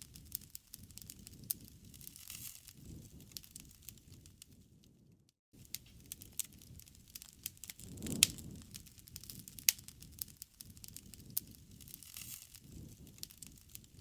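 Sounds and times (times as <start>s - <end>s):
campfire crackling: 0.0s - 14.0s
low rush of flame: 0.0s - 14.0s.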